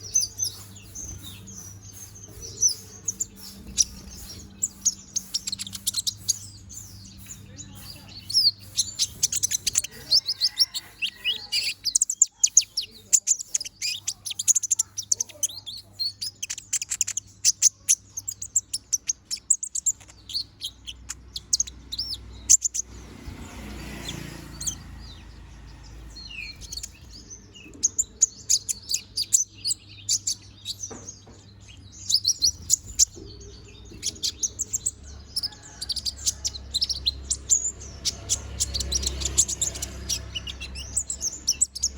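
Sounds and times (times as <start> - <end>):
bird twittering chirps: 0.0 - 41.9.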